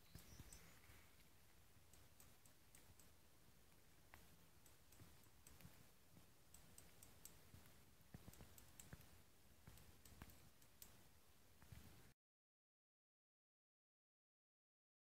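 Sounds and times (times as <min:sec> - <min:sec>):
background hiss: 0:00.0 - 0:12.1
faint clicks and ticks: 0:00.0 - 0:12.1.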